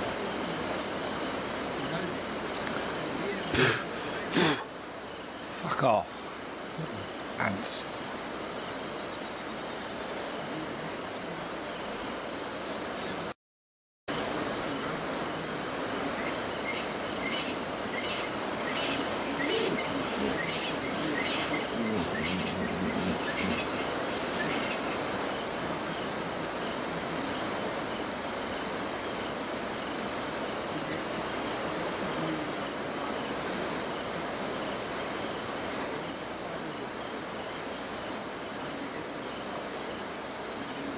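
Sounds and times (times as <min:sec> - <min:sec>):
high-pitched insect trill: 0:00.0 - 0:13.4, 0:14.1 - 0:40.9.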